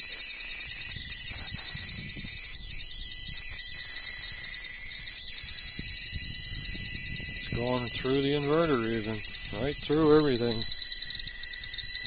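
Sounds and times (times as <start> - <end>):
electrical hiss and whine: 0.0 - 12.0.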